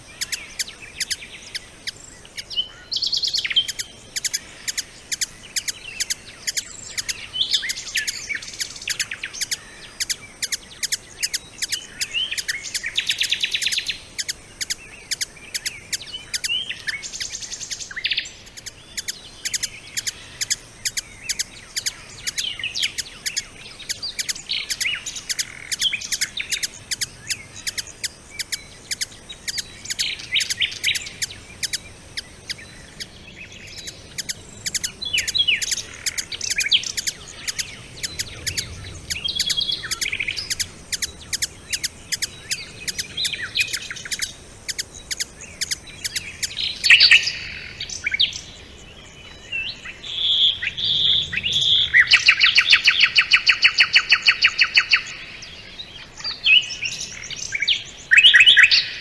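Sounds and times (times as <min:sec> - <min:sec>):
bird trill: 0:00.0 - 0:47.6
faint high-pitched whine: 0:00.0 - 0:56.2
songbirds singing: 0:00.0 - 0:59.0.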